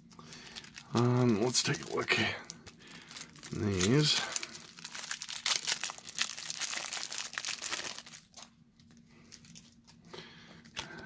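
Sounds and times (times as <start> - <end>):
plastic wrapper crinkling: 0.0 - 10.9.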